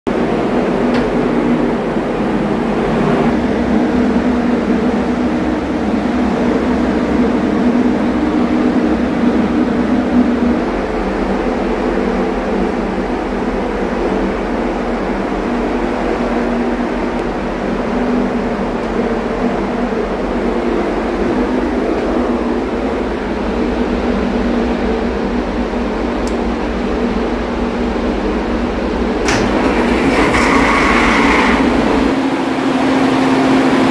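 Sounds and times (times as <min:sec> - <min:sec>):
ship machinery droning: 0:00.1 - 0:33.9.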